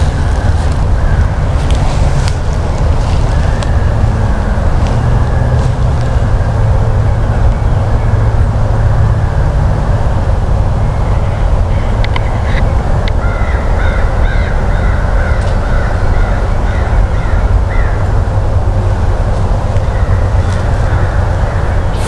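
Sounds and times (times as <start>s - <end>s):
bird calls: 0.0s - 9.5s, 10.8s - 22.0s
steady low rumble: 0.0s - 22.0s.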